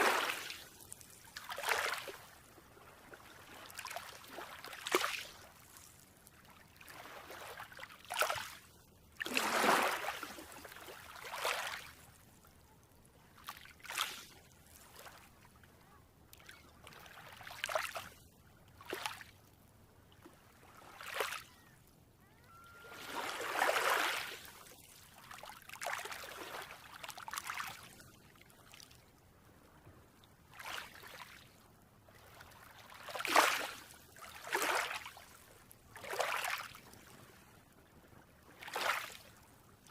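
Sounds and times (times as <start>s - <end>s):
small waves washing onto beach: 0.0s - 19.4s, 22.7s - 28.9s, 29.7s - 37.6s, 38.4s - 39.9s.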